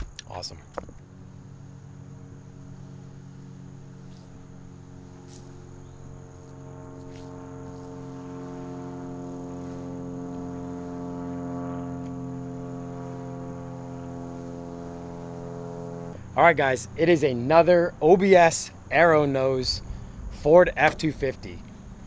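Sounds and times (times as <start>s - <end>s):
crickets singing: 0.0s - 22.0s
low hum of held tones: 0.0s - 22.0s.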